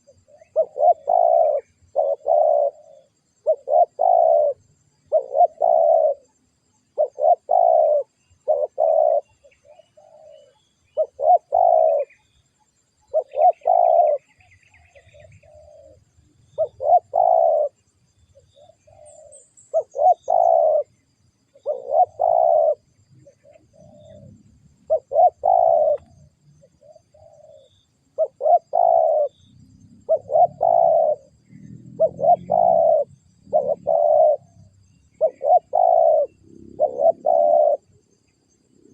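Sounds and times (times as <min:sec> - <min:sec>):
fainter dove coos: 0:00.0 - 0:12.2, 0:13.0 - 0:17.8, 0:18.4 - 0:20.9, 0:21.5 - 0:38.0
dove cooing: 0:00.0 - 0:12.3, 0:13.0 - 0:38.9.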